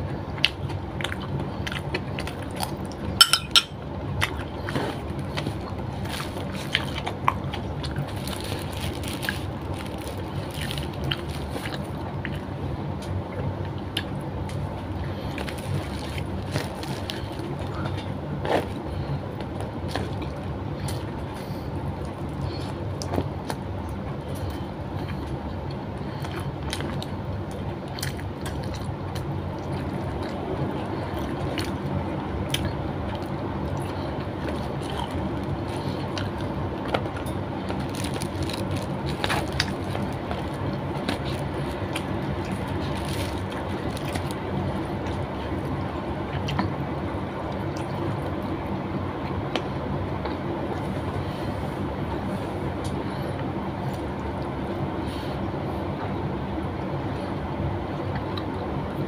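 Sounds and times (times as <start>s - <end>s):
low steady hum: 0.0s - 59.0s
woman chewing and smacking lips: 0.1s - 3.2s, 4.2s - 48.6s.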